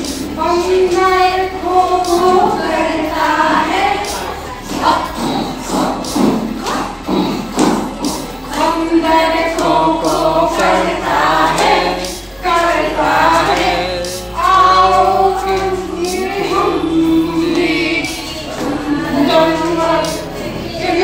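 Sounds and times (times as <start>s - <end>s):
low musical accompaniment: 0.0s - 21.0s
women singing into microphone: 0.0s - 21.0s.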